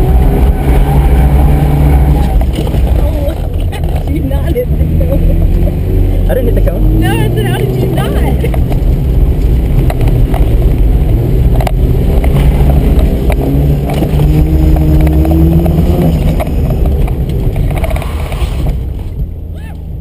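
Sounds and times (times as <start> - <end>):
rotary engine accelerating: 0.0 - 19.4.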